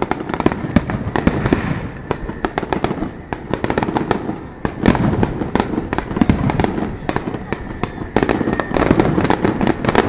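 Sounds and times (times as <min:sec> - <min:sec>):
firework bangs and crackles: 0:00.0 - 0:10.0.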